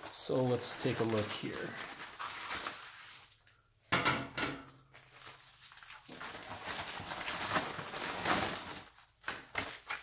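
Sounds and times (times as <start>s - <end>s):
plastic packaging rustling: 0.0s - 3.7s, 4.7s - 10.0s.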